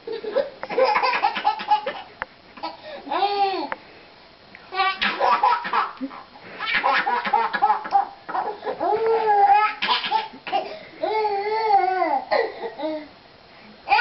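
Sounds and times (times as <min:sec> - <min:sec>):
baby giggling: 0:00.0 - 0:03.7, 0:04.7 - 0:13.0.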